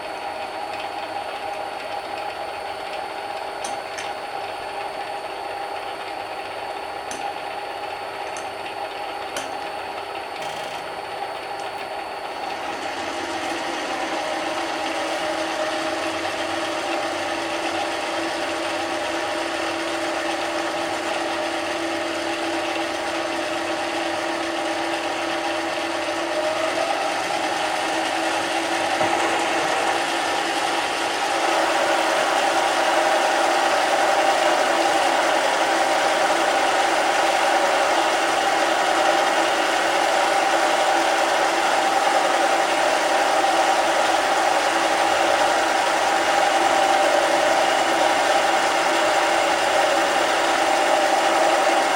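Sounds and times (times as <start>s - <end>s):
lathe motor and gear whine: 0.0s - 51.9s.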